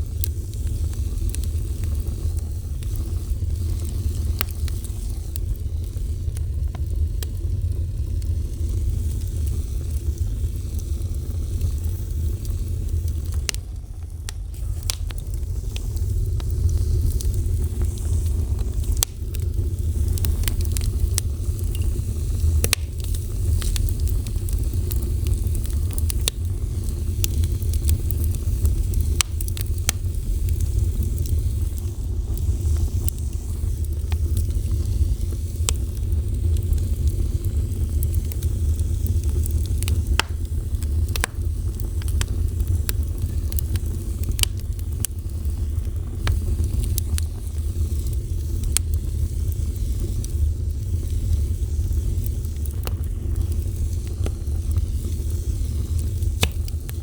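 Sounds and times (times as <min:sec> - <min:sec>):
fire crackling and popping: 0:00.0 - 0:57.0
low fire rumble: 0:00.0 - 0:57.0.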